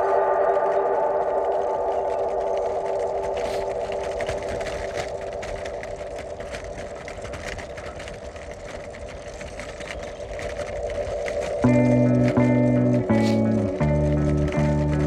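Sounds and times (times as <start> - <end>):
bicycle rattling over cobblestones: 0.0 - 15.0.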